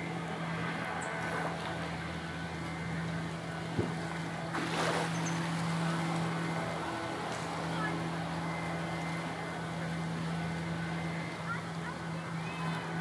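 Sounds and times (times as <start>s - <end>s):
steady low hum: 0.0s - 13.0s
wind and sea hiss: 0.0s - 13.0s.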